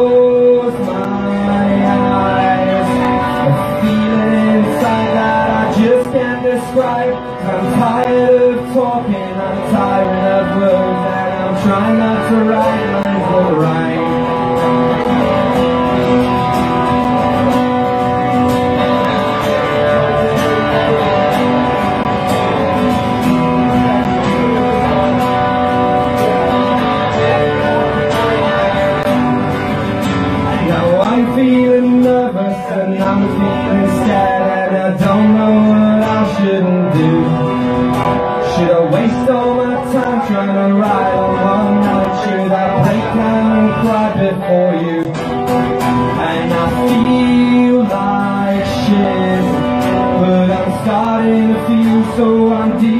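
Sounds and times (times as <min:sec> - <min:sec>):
acoustic guitar strummed and picked: 0:00.0 - 0:52.9.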